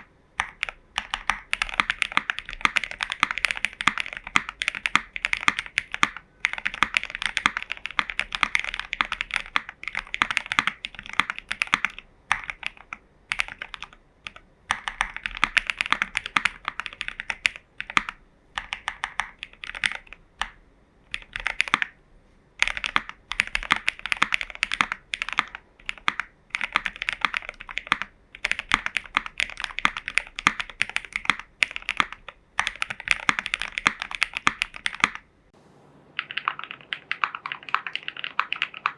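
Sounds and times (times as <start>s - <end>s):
mechanical keyboard typing: 0.0s - 22.0s, 22.6s - 35.3s, 36.2s - 38.9s.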